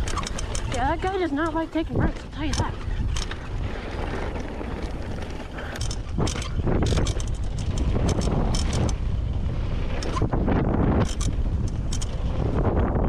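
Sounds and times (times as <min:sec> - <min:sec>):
bike clacking and rattling: 0:00.0 - 0:13.0
bike tyres rumbling: 0:00.0 - 0:13.0
wind rushing on microphone: 0:00.0 - 0:13.0.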